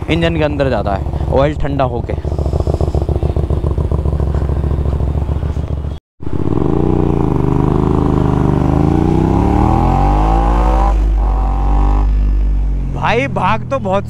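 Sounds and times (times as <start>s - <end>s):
motorcycle engine idling and accelerating: 0.0s - 14.0s.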